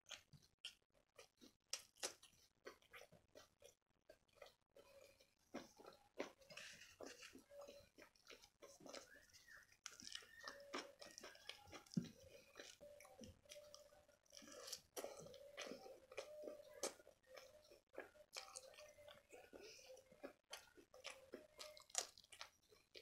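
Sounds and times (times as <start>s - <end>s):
close chewing mouth sounds: 0.0s - 23.0s.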